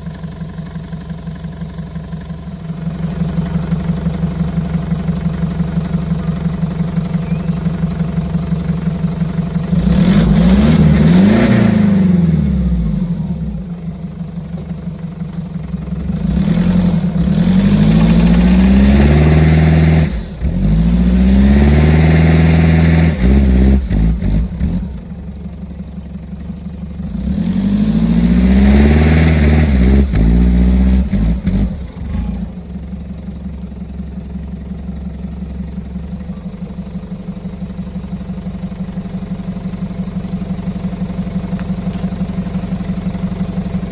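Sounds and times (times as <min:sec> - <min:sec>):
diesel engine revving and idling: 0:00.0 - 0:43.9.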